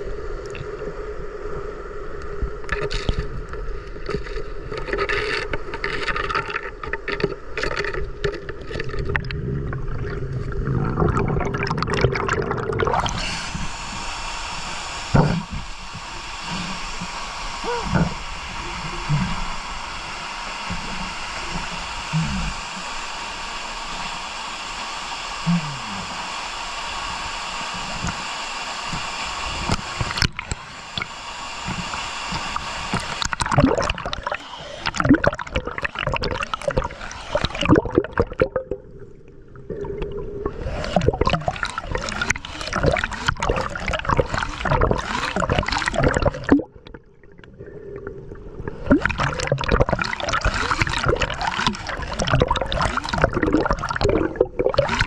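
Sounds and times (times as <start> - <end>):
water gurgling and bubbles crackling: 0.0 - 55.0
muffled underwater rush: 5.8 - 55.0.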